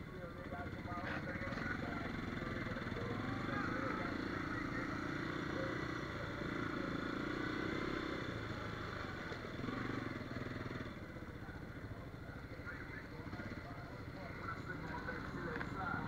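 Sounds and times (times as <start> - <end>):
quad engine running: 0.0 - 16.0.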